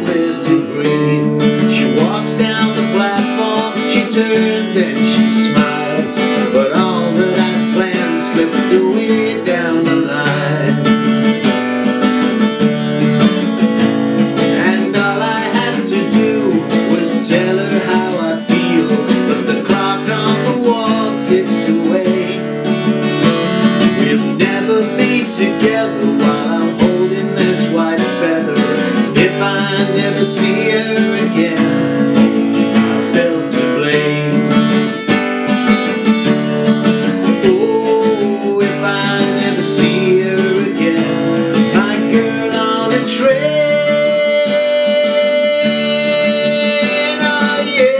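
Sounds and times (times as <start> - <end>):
man singing: 0.0 - 11.6, 14.2 - 35.2, 37.0 - 47.9
acoustic guitar strumming: 0.0 - 47.9.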